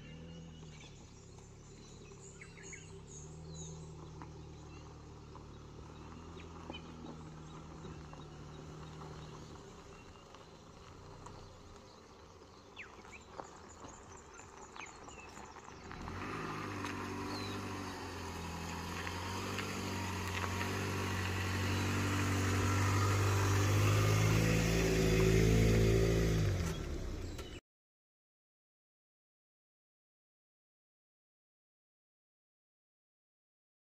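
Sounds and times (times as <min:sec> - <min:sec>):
car engine pulling away: 0:00.0 - 0:27.6.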